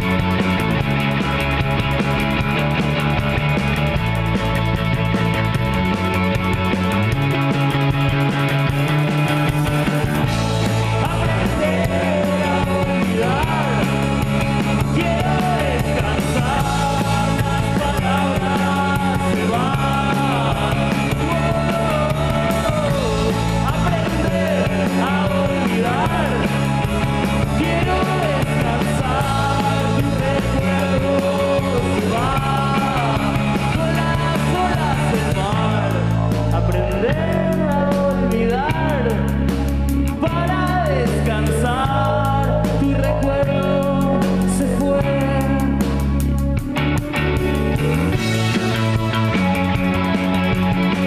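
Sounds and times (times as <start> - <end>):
bass line: 0.0 - 51.0
drums: 0.0 - 51.0
electric guitar: 0.0 - 51.0.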